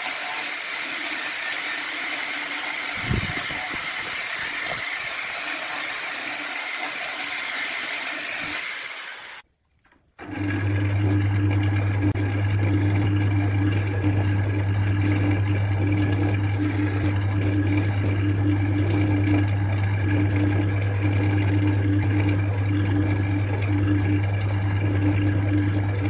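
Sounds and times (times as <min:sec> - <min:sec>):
wood lathe running: 0:00.0 - 0:09.4, 0:10.2 - 0:26.0.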